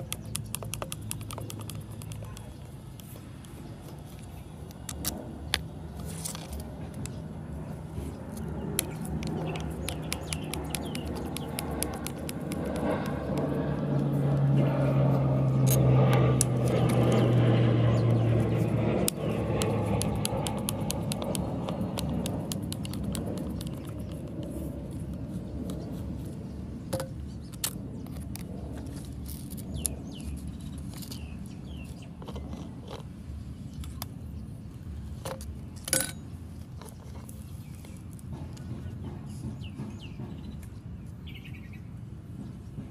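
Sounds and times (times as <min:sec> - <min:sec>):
birds chirping: 0:00.0 - 0:28.3, 0:29.6 - 0:34.9, 0:36.8 - 0:42.8
low engine-like hum: 0:00.0 - 0:42.9.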